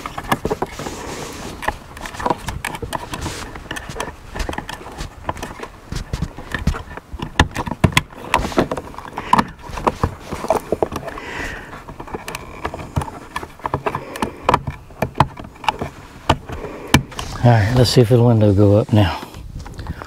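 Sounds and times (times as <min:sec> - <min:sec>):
plastic clicks and knocks: 0:00.0 - 0:17.3.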